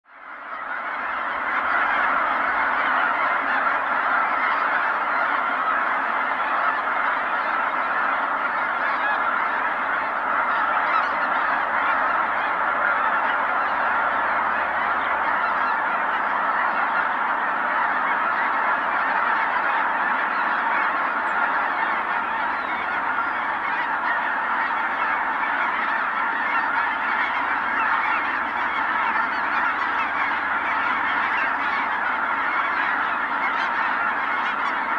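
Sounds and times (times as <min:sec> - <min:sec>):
flock of geese honking: 0:00.1 - 0:34.9.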